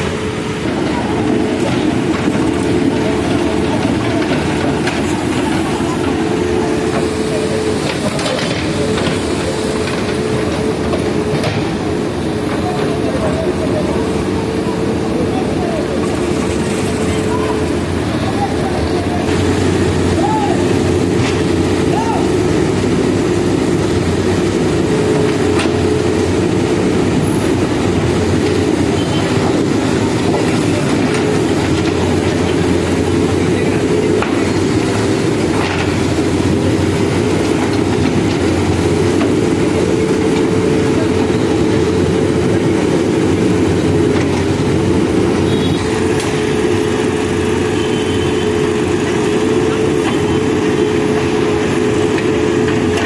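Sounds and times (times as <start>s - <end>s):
diesel engine running under load: 0.0s - 53.0s.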